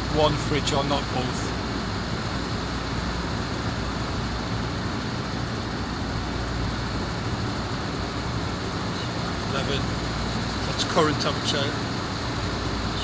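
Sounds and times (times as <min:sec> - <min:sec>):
machinery rumble with hiss: 0:00.0 - 0:13.0.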